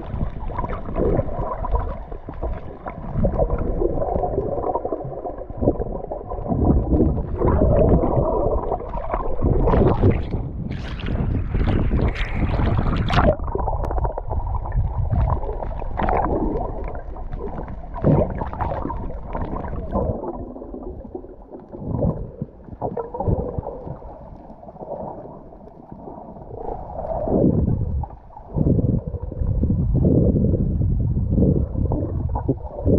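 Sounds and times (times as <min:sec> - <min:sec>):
muffled underwater bubbling: 0:00.0 - 0:32.9
seawater sloshing and gurgling: 0:00.0 - 0:32.9.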